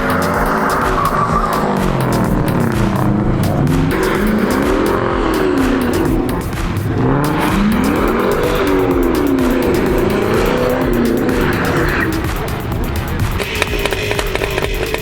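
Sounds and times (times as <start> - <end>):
car engine revving: 0.0 - 15.0
tyre noise: 0.0 - 15.0.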